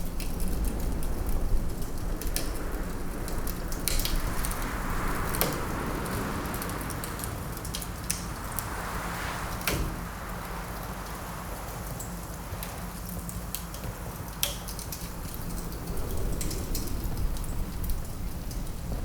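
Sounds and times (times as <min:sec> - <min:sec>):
wind blowing: 0:00.0 - 0:19.0
wood fire crackling: 0:00.0 - 0:19.0.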